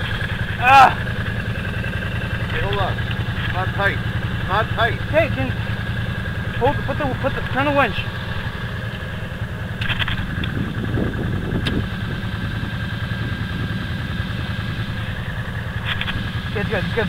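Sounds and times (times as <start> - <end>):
atv engine idling: 0.0 - 17.0
electric winch whining: 0.0 - 17.0.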